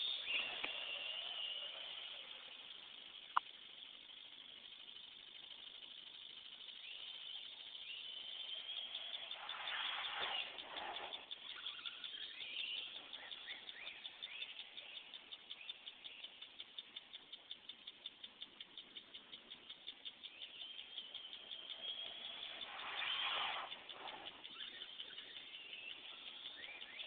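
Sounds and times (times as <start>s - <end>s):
rapid regular ticking: 0.0s - 27.0s.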